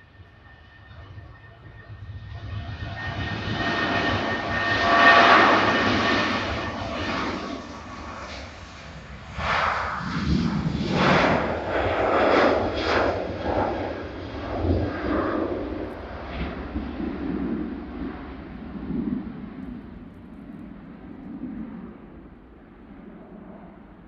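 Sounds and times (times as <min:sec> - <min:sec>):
airliner engines passing: 0:00.0 - 0:24.0.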